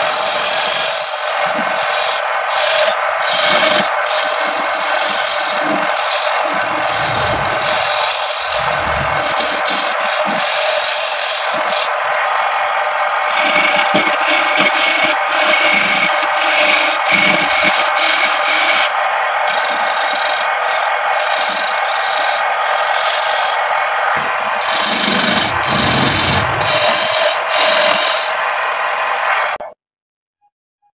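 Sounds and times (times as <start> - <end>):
tool scraping spinning bamboo: 0.0 - 12.0, 13.2 - 28.5.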